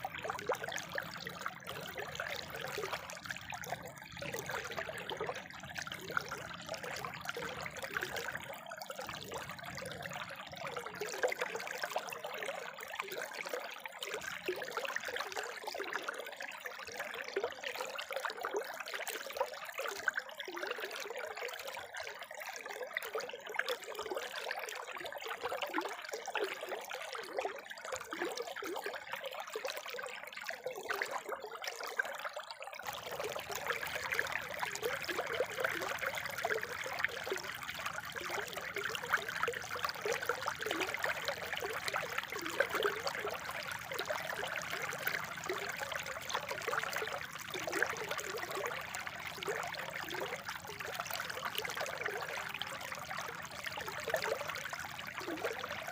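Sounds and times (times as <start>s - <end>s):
water trickling over rocks: 0.0s - 55.9s.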